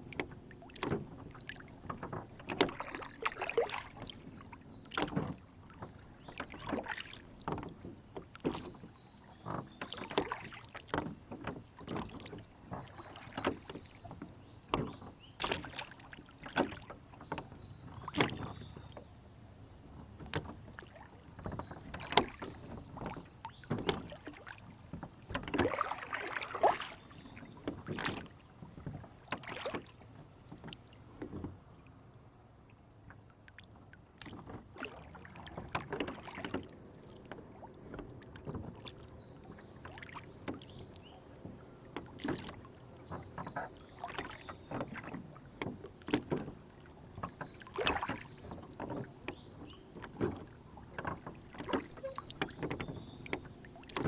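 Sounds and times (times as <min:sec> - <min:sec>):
waves knocking against hull: 0:00.0 - 0:31.7, 0:34.2 - 0:54.0
oars splashing: 0:00.0 - 0:31.9, 0:33.2 - 0:54.0.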